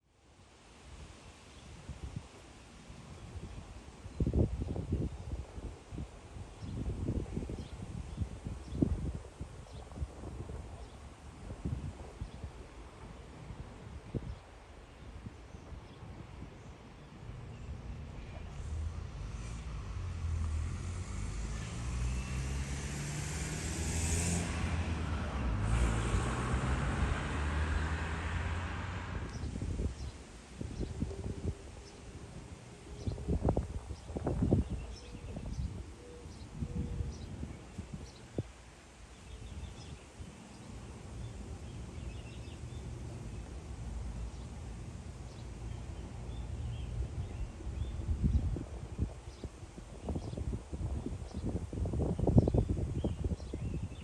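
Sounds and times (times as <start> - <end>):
road and tyre noise: 2.0 - 54.0.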